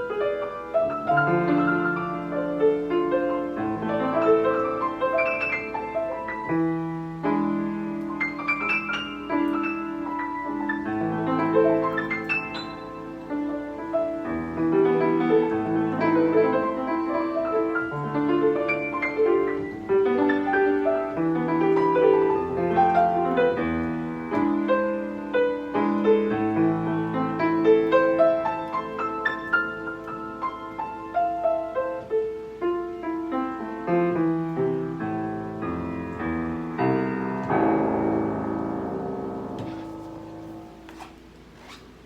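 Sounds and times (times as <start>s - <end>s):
classical piano piece: 0.0s - 42.0s.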